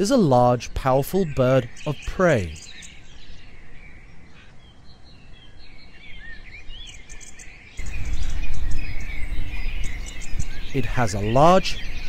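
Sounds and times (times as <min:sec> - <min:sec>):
birds chirping: 0:00.0 - 0:12.0
soft outdoor background hiss: 0:00.0 - 0:12.0.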